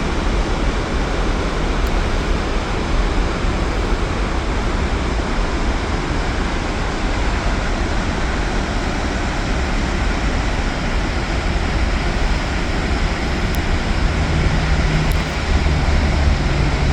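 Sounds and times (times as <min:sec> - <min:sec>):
low steady hum: 0:00.0 - 0:16.9
water roaring through dam: 0:00.0 - 0:16.9.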